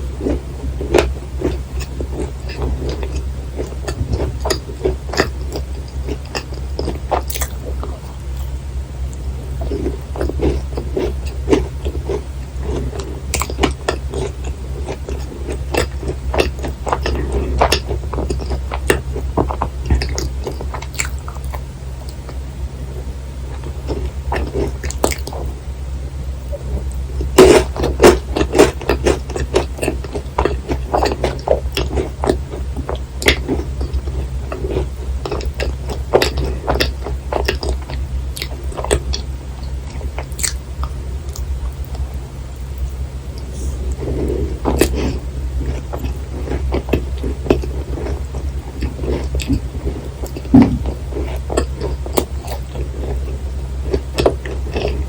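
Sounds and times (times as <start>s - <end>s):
low hum: 0.0s - 55.0s
chewing with mouth clicks: 0.2s - 25.6s, 26.5s - 55.0s.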